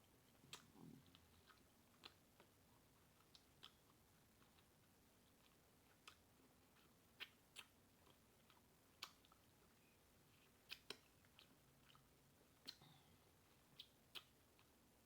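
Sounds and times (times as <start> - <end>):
mouth clicks of chewing: 0.3 - 14.8.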